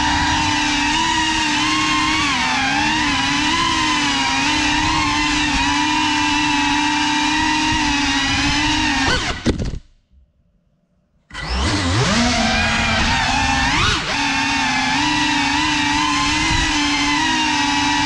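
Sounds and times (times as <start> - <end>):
drone motors whining: 0.0 - 9.5, 11.3 - 18.0.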